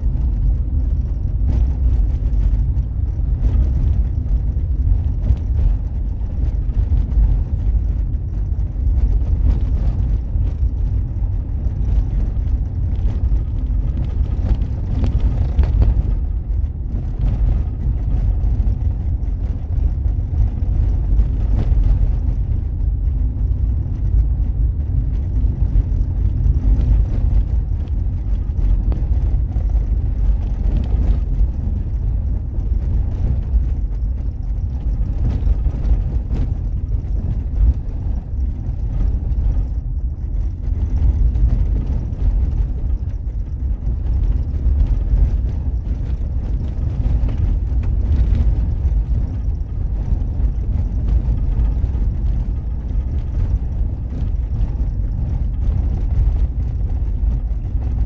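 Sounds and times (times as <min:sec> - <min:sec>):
road vehicle engine and tyres: 0:00.0 - 0:58.0.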